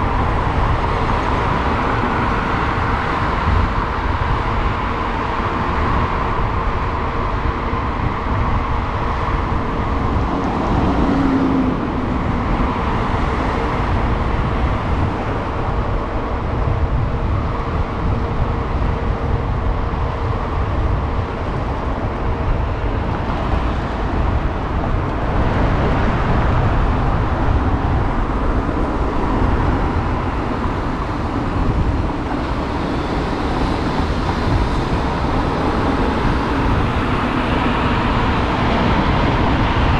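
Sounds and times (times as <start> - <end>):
car traffic noise: 0.0 - 39.9
wind rushing over microphone: 0.0 - 39.9.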